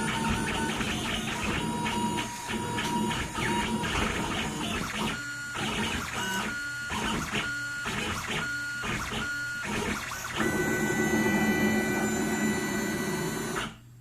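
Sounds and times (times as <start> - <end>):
stepper motors whining: 0.0 - 13.8.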